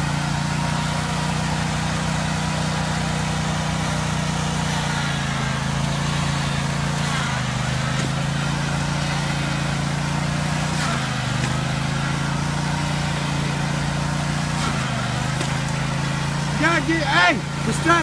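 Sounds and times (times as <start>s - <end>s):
riding lawn mower engine running: 0.0s - 18.0s.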